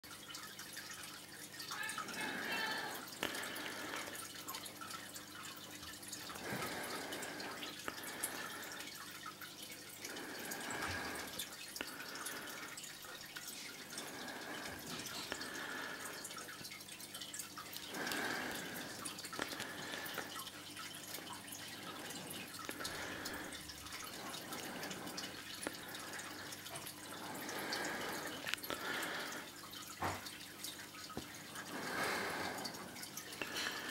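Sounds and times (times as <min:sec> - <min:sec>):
fish tank water trickling: 0:00.0 - 0:33.9.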